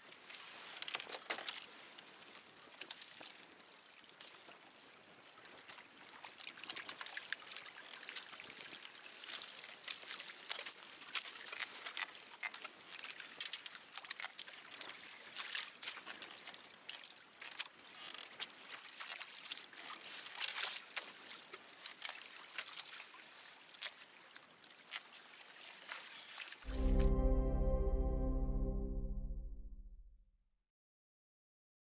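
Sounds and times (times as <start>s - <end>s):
water lapping against a kayak: 0.4s - 26.6s.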